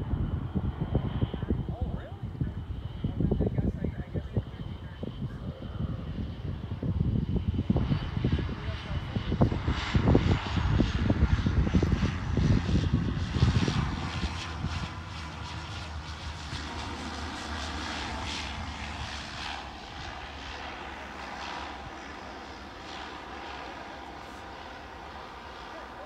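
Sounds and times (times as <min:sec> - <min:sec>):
airliner engines rumbling: 0:00.0 - 0:26.0.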